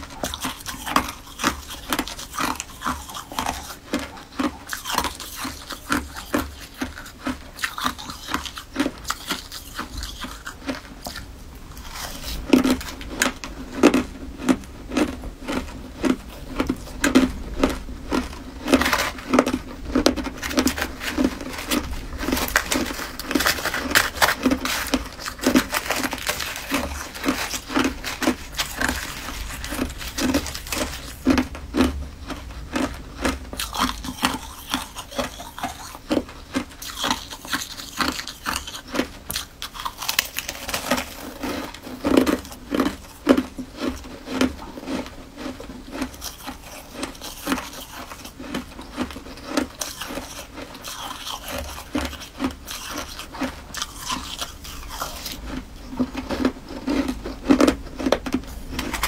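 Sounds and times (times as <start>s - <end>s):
crunchy food chewing: 0.0s - 59.0s.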